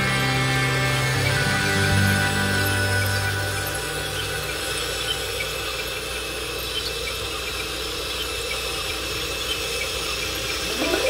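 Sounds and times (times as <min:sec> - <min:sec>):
small electric motors whining: 0:00.0 - 0:11.0.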